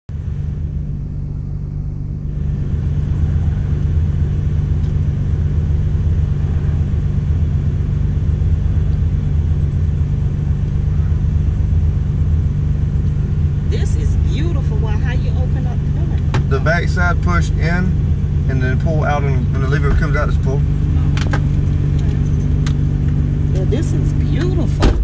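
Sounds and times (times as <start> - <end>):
car engine idling: 0.1 - 25.0.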